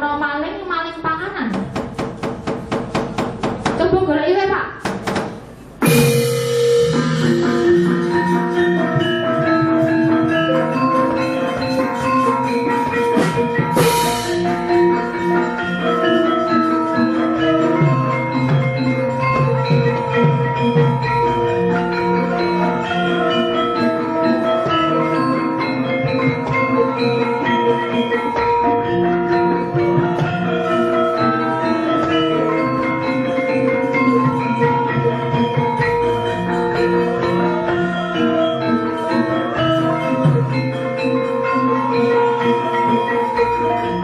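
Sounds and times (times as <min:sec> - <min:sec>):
gamelan metallophones ringing: 0:05.4 - 0:44.0.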